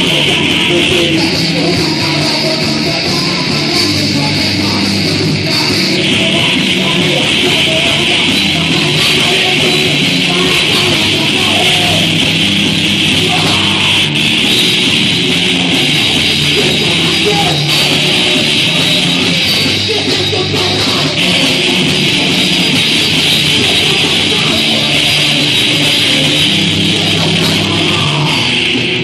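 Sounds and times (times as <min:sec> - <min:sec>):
heavy rock music: 0:00.0 - 0:29.0.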